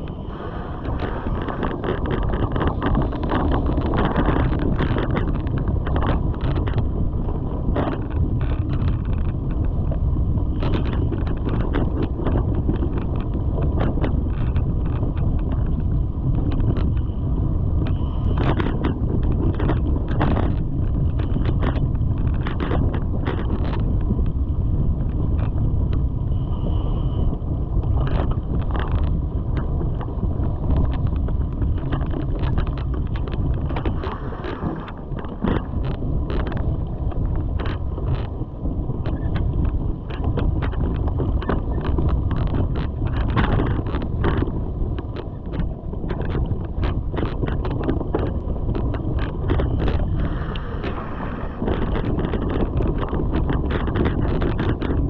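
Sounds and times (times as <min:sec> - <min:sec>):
bike tyres rumbling on dirt: 0:00.0 - 0:55.0
wind rushing over microphone: 0:00.0 - 0:55.0
bike clicks and knocks: 0:00.9 - 0:26.7, 0:27.8 - 0:51.0, 0:51.6 - 0:55.0.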